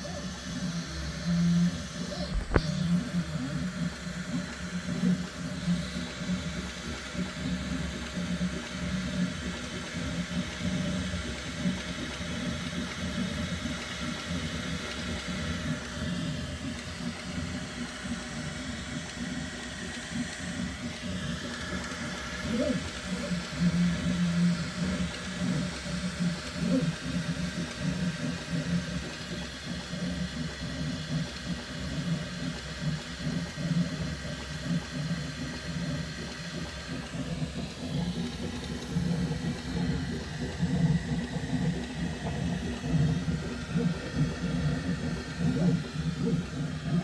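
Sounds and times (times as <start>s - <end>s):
printer motors humming: 0.0s - 47.0s.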